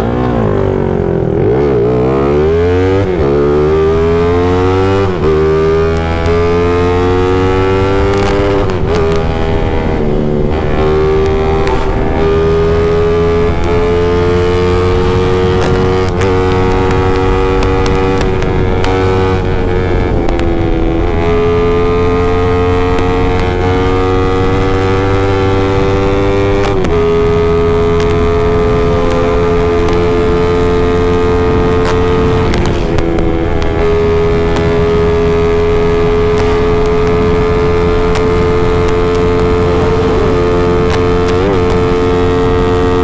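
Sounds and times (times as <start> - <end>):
motorcycle engine at high revs: 0.0 - 43.0.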